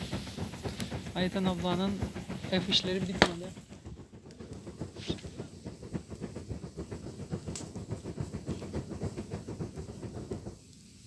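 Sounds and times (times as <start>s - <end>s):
rhythmic whooshing of fanned fire: 0.0s - 11.0s.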